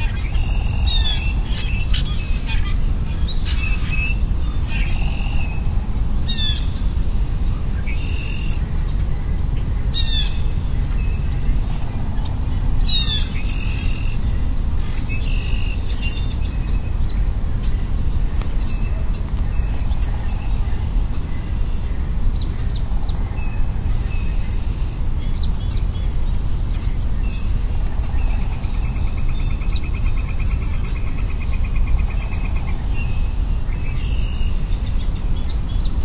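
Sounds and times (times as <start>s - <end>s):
birds calling and singing: 0.0s - 36.0s
steady low rumble: 0.0s - 36.0s.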